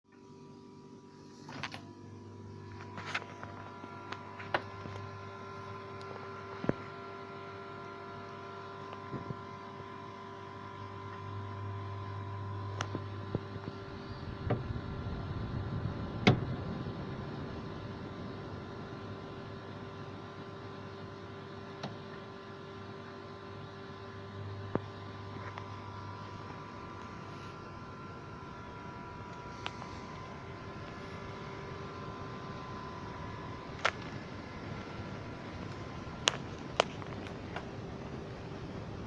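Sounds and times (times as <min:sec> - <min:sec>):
incubator mechanical hum: 0:00.1 - 0:39.0.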